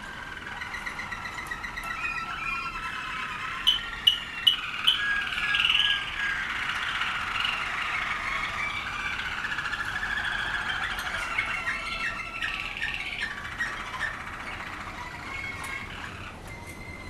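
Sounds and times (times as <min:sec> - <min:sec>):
canaries trilling and warbling: 0:00.0 - 0:17.0
sharp bird chirps: 0:00.0 - 0:17.0.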